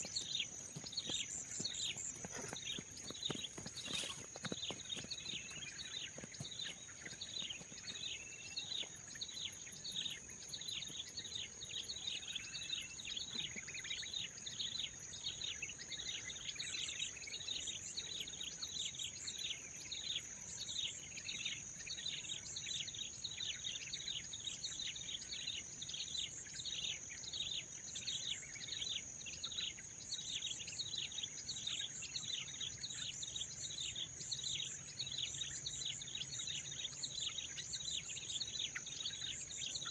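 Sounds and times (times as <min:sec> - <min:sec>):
bird chirps: 0:00.0 - 0:39.9.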